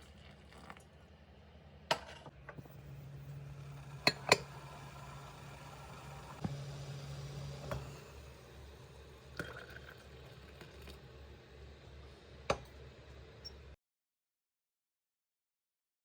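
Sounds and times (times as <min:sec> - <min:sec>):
low steady hum: 0:00.1 - 0:13.8.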